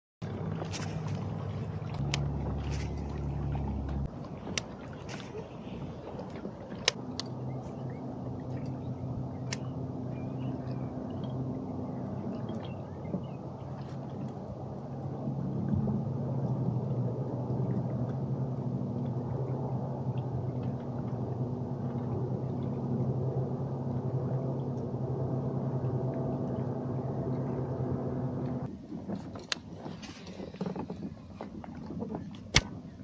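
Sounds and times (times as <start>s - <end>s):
boat motor humming: 0.2s - 33.0s.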